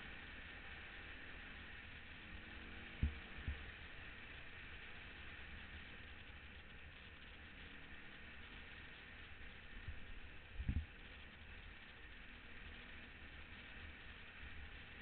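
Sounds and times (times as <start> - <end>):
faint dirt bike engine: 0.0 - 15.0
wind and road noise hiss: 0.0 - 15.0.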